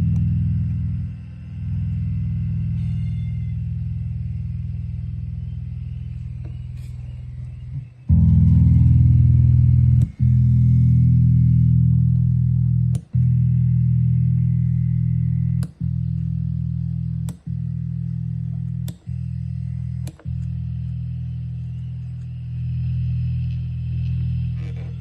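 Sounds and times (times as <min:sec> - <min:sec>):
electric bass guitar notes: 0:00.0 - 0:25.0.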